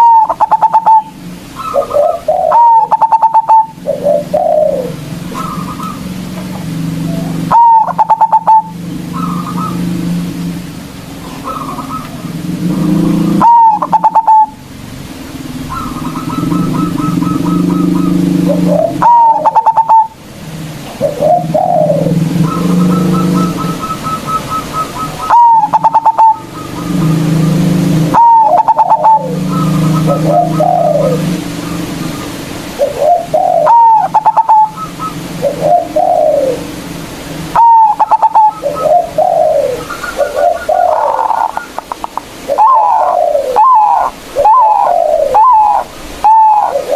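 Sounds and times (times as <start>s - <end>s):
dove cooing song: 0.0s - 46.9s.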